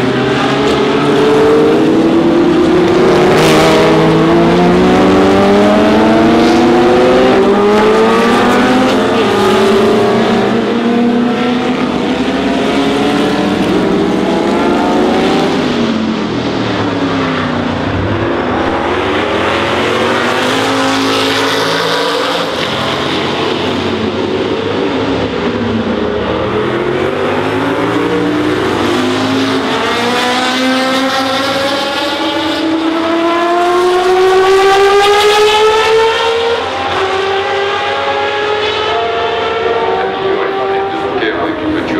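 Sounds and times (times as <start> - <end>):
race car accelerating past: 0.0 - 41.9
race car engines passing: 0.0 - 41.9.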